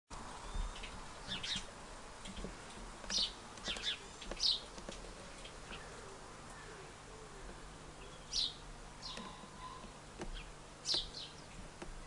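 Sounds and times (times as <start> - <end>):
small birds chirping: 0.3 - 12.0.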